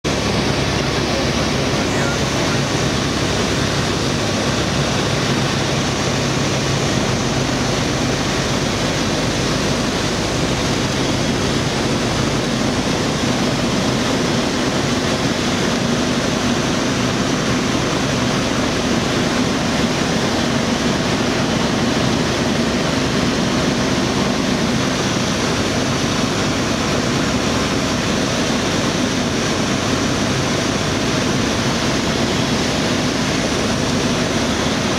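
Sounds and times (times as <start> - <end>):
propeller aircraft engine drone: 0.0 - 34.9
rushing airflow: 0.0 - 34.9.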